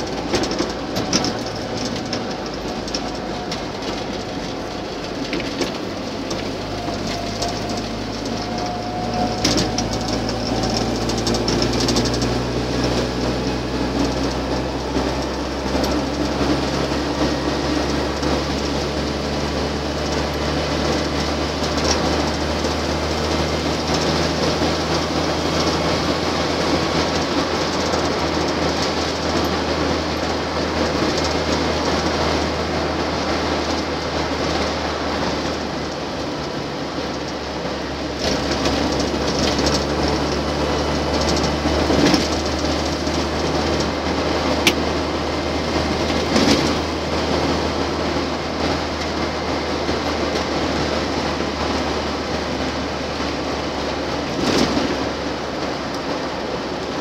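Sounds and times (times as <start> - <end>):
vehicle cab drone: 0.0 - 57.0.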